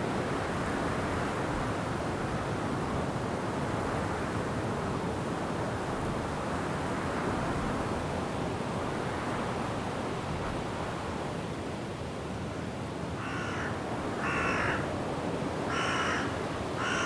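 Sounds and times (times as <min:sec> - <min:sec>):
wind through trees: 0:00.0 - 0:17.0.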